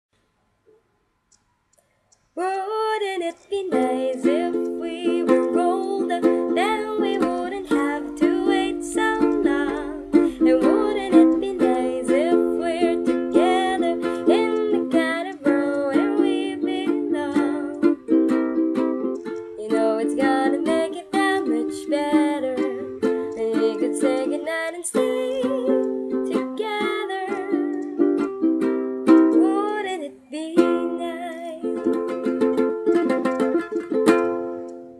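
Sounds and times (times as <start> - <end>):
woman singing: 2.4 - 18.1, 19.5 - 28.2, 29.2 - 33.3
ukulele strumming: 2.4 - 34.9.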